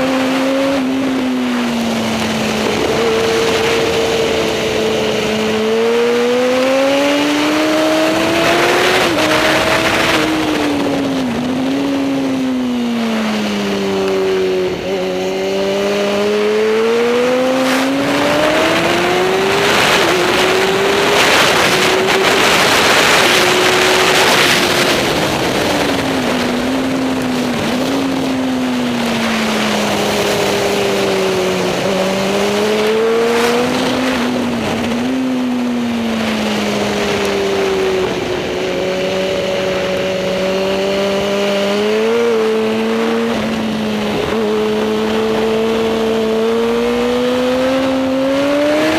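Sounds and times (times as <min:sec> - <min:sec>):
racing motorcycle engine: 0:00.0 - 0:48.9.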